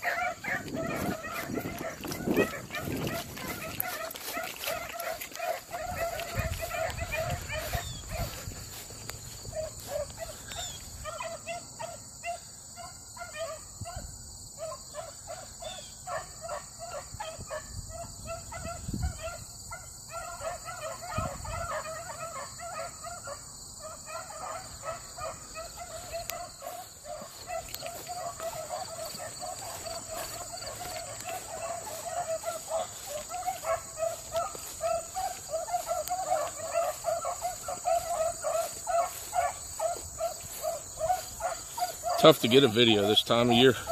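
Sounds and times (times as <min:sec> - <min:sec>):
hounds baying: 0:00.0 - 0:43.9
insects droning: 0:00.0 - 0:43.9.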